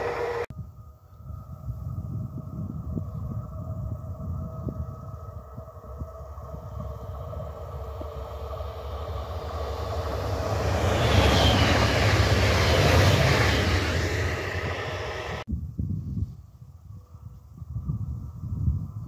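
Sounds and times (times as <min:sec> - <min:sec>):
train wheel and air noise: 0:00.0 - 0:16.4
wind rumble on microphone: 0:00.0 - 0:19.0.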